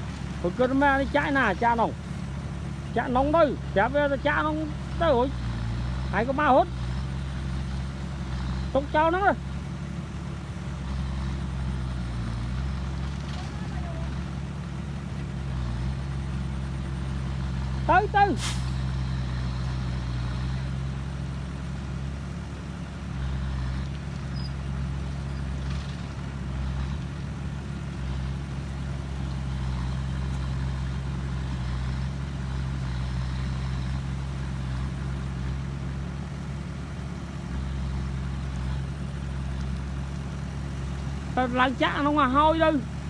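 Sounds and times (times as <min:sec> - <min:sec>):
heavy engine running: 0:00.0 - 0:43.0.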